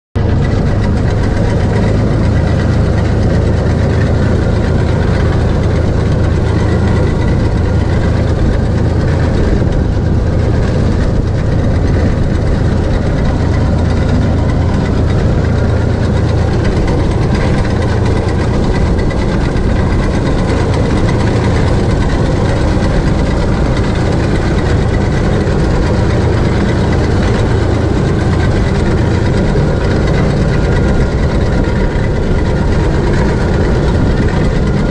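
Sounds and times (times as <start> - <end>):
tractor engine drone: 0.2 - 34.9.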